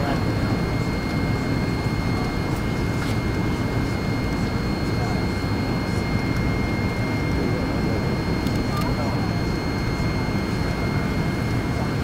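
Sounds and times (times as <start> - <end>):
jet engines and airflow rumbling: 0.0 - 12.0.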